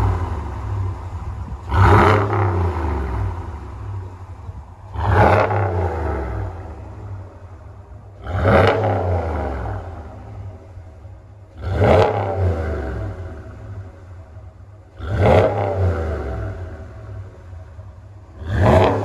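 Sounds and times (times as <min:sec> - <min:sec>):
pickup truck engine revving: 0:00.0 - 0:10.8, 0:11.5 - 0:14.3, 0:14.9 - 0:19.0.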